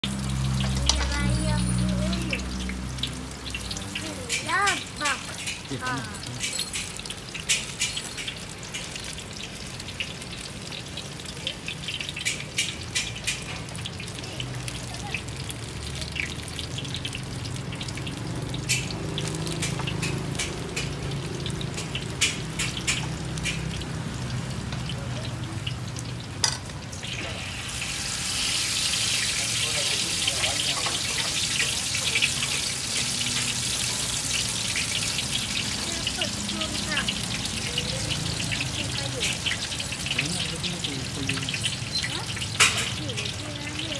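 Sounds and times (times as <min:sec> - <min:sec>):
hot oil sizzling and crackling: 0:00.0 - 0:43.9.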